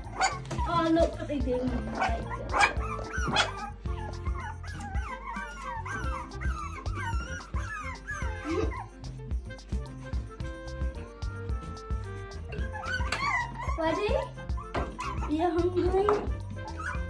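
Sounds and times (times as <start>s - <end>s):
puppy yelps: 0.0s - 9.2s, 12.5s - 17.0s
background music: 0.0s - 17.0s
puppies yipping and whining: 0.0s - 17.0s.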